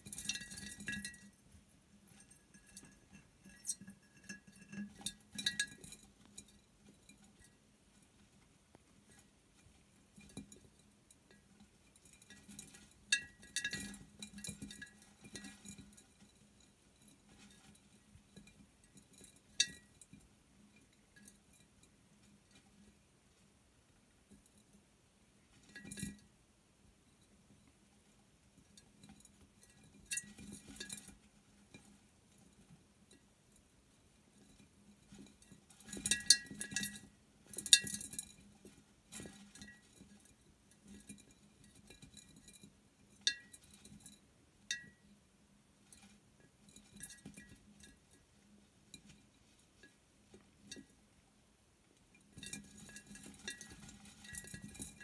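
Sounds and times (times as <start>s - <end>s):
mice scrabbling against glass: 0.0s - 23.0s, 27.2s - 45.0s, 45.8s - 51.0s, 52.0s - 55.0s.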